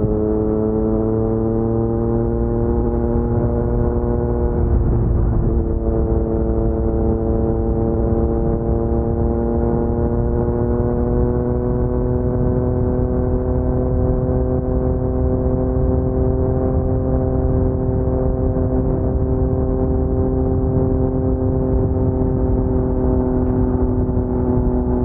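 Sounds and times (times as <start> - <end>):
motorcycle engine riding: 0.0 - 25.0.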